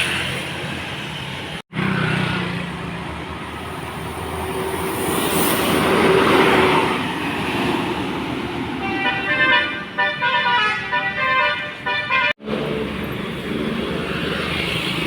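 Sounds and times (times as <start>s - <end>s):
bus passing by: 0.0s - 15.0s.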